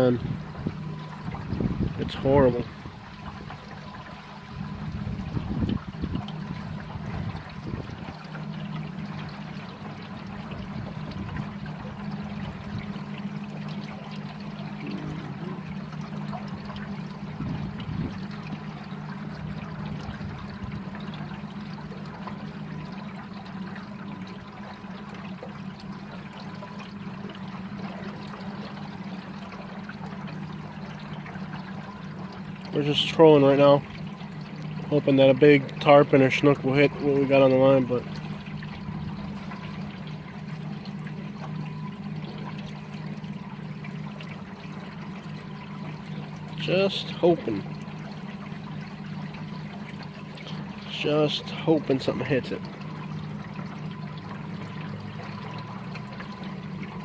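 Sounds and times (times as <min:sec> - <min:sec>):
boat motor humming: 0:00.0 - 0:57.0
water splashing along hull: 0:00.0 - 0:57.0.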